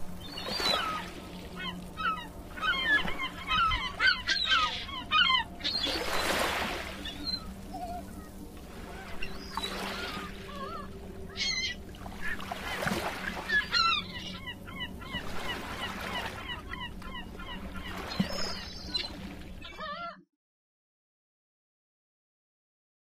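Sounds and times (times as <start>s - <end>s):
birds calling: 0.1s - 20.2s.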